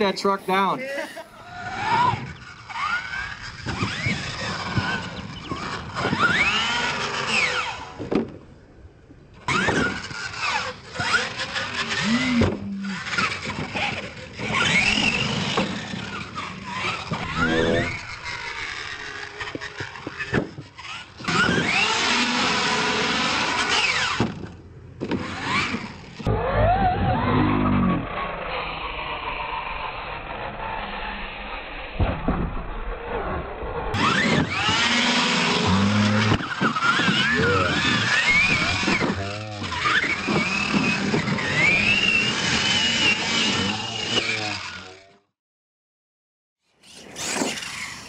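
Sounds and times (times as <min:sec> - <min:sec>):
toy truck motor whining: 0:01.2 - 0:08.1, 0:09.3 - 0:31.9, 0:33.0 - 0:45.3, 0:46.7 - 0:48.0.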